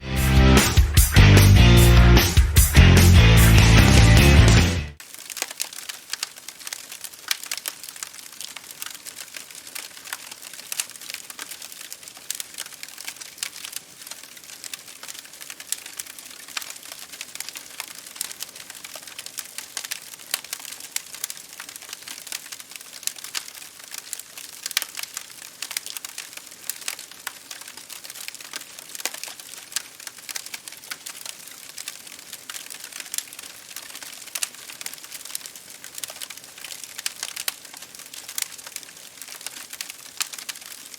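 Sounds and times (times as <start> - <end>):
campfire crackling: 0.2 - 40.9.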